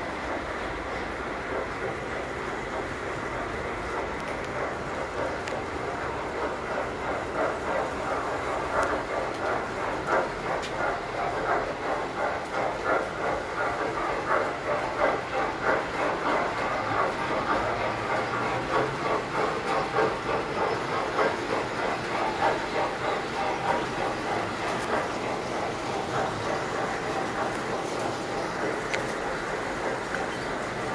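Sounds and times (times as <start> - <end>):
model train metallic clatter: 0.0 - 30.9.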